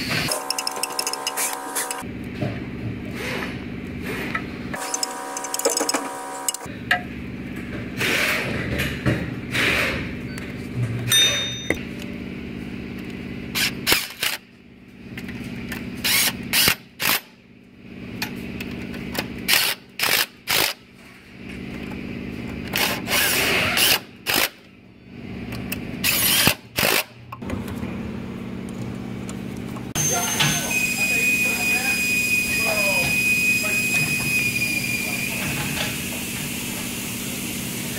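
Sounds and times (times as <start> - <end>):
steady mechanical hum: 0.0 - 37.9.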